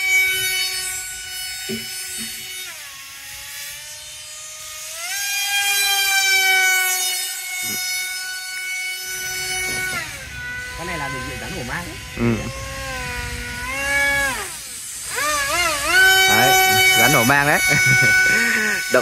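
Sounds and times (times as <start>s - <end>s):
model jet motor whining: 0.0s - 19.0s.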